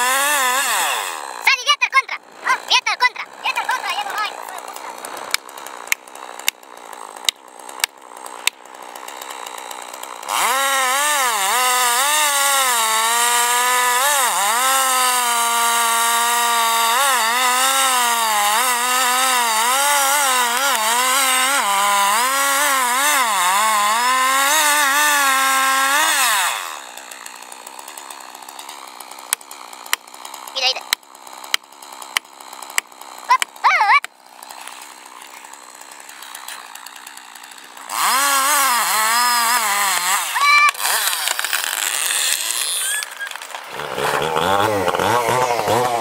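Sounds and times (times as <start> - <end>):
chainsaw cutting into tree trunk: 0.0 - 46.0.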